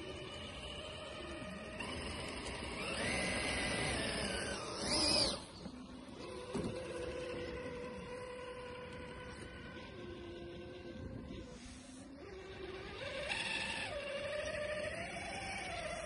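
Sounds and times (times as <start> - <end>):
toy car electric motor whining: 0.0 - 16.0
wheels throwing snow: 0.0 - 16.0.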